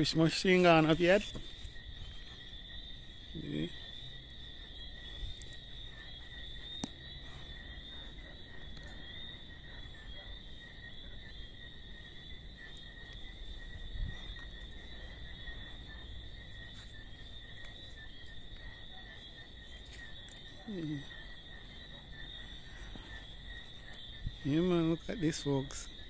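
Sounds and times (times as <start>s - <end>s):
insects or frogs trilling: 0.0s - 26.0s.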